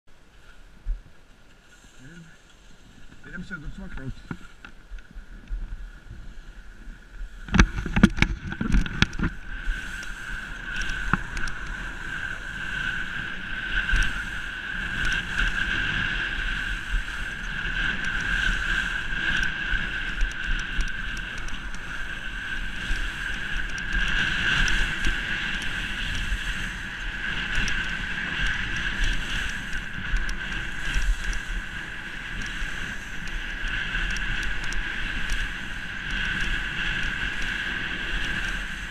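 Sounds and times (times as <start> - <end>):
skis scraping over snow: 0.2 - 38.9
wind buffeting microphone: 2.0 - 38.9.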